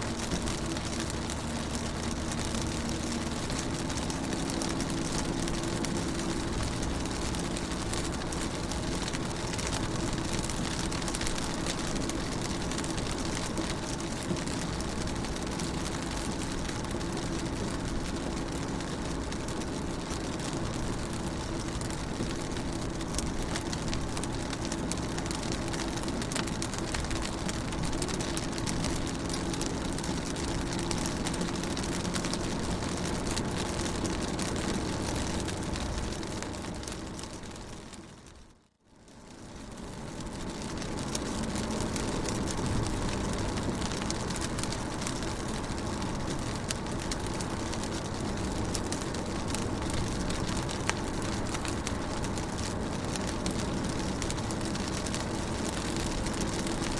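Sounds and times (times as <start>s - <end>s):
rain on car windows: 0.0s - 56.9s.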